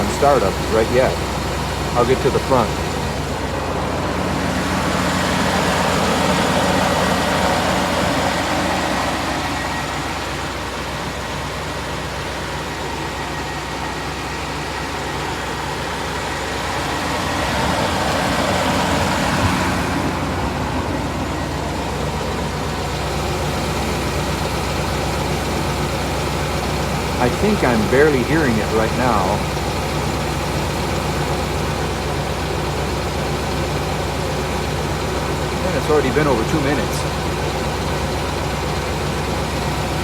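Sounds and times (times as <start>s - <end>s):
van engine idling: 0.0s - 40.0s.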